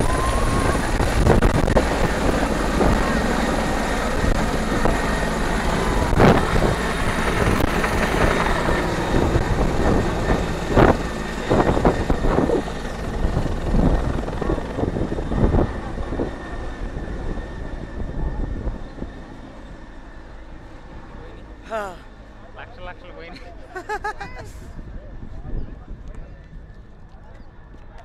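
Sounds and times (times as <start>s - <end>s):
helicopter rotor and turbine: 0.0s - 28.0s.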